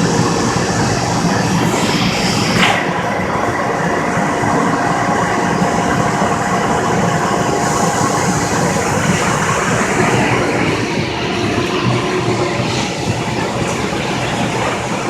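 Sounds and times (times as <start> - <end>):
cnc router running: 0.0 - 15.0
constant machine whine: 0.0 - 15.0.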